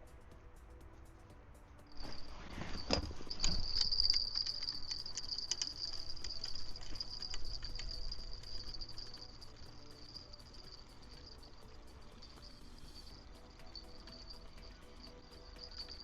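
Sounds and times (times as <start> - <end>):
crickets chirring: 1.9 - 16.0.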